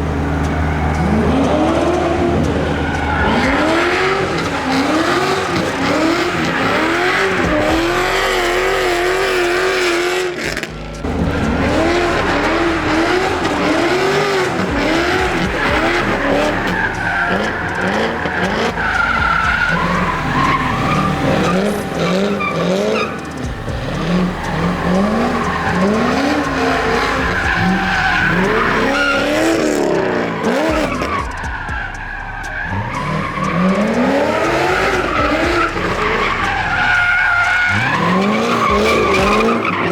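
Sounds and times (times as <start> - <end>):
car engine revving: 0.0 - 39.9
tyres skidding and squealing: 0.0 - 39.9.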